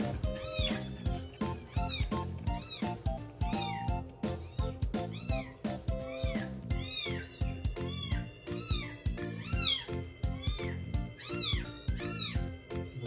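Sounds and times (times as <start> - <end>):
background music: 0.0 - 13.0
kitten mewing: 0.3 - 12.5.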